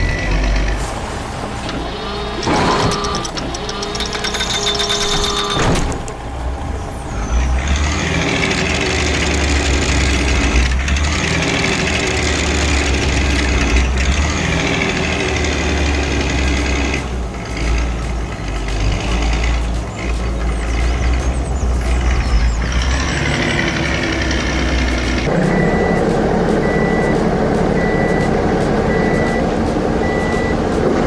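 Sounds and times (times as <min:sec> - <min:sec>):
diesel engine deep rumble: 0:00.0 - 0:31.0.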